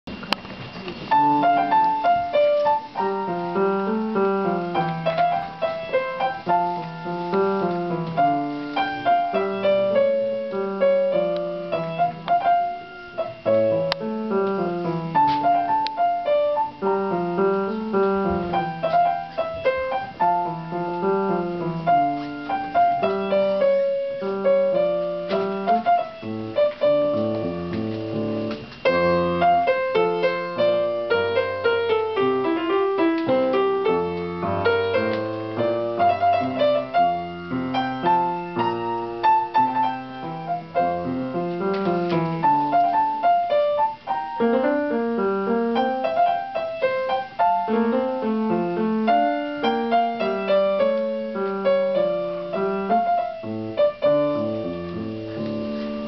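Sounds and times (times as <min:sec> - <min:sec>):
grand piano playing: 0:00.1 - 0:56.0.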